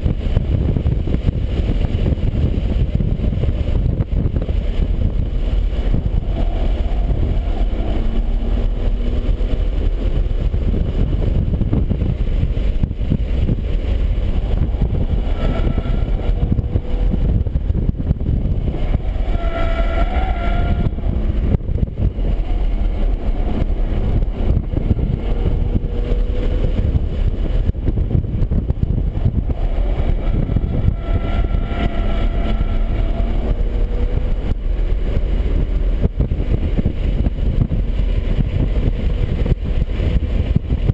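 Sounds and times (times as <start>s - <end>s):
road and wind noise: 0.0s - 40.9s.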